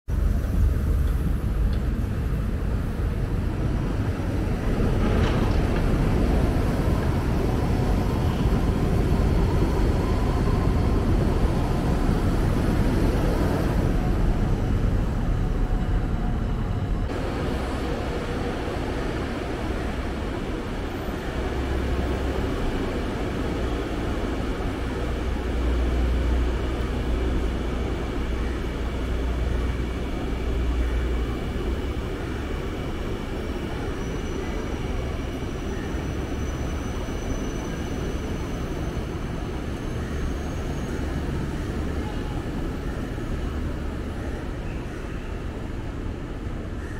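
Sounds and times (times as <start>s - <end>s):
low diesel drone: 0.1s - 46.8s
diesel train running past: 0.1s - 46.9s.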